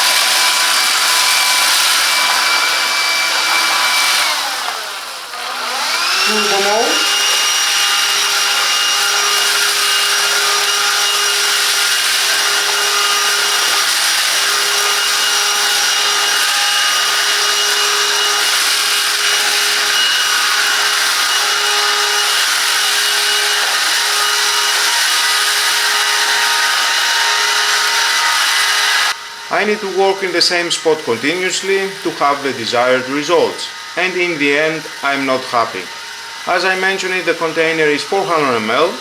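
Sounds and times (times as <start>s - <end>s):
vacuum cleaner on carpet: 0.0s - 39.0s.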